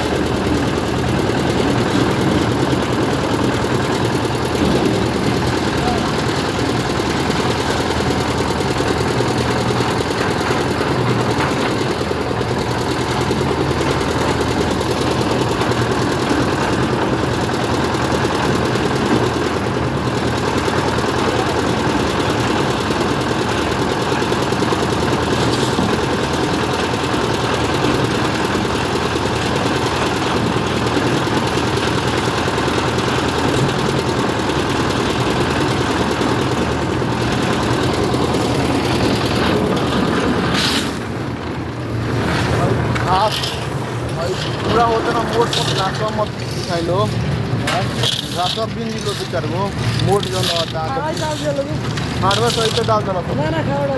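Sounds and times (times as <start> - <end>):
construction machinery engine running: 0.0 - 53.9.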